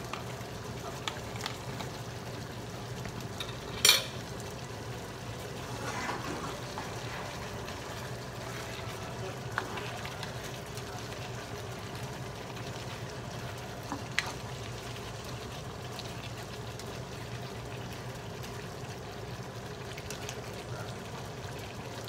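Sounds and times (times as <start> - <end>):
stew simmering in a frying pan: 0.0 - 22.0.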